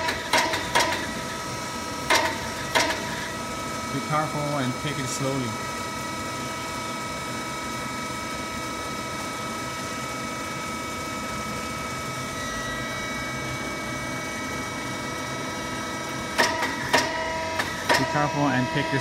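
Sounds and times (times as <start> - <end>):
machinery humming and whining: 0.0 - 19.0.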